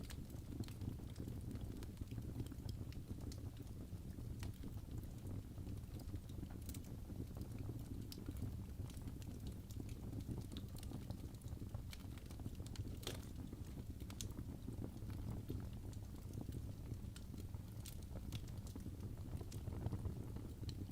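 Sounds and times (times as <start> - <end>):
crackles and pops from logs: 0.0 - 20.9
low rumble of flames: 0.0 - 20.9.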